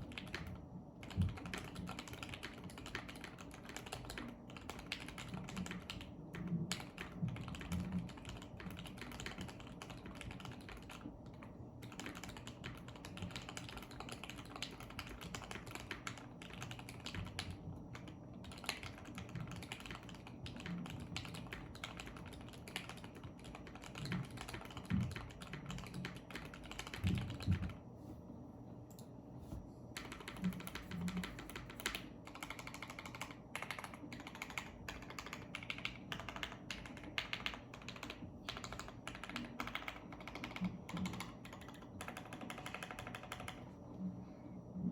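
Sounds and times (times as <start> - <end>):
mechanical keyboard typing: 0.0 - 27.8, 30.0 - 43.7.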